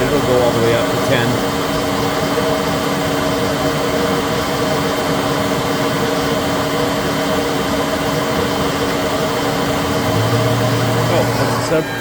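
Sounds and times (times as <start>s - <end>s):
lathe spindle humming: 0.0s - 12.0s.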